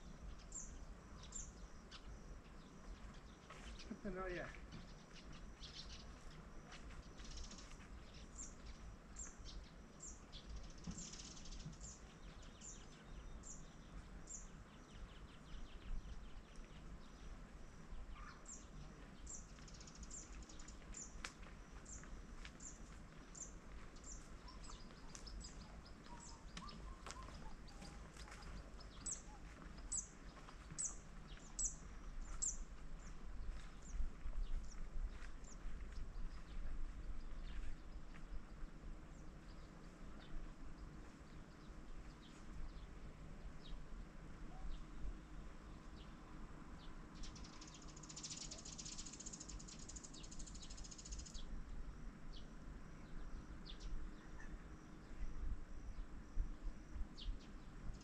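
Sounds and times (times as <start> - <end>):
small bird chirping: 0.0 - 43.0, 46.8 - 51.6
faint low rumble: 0.0 - 58.0.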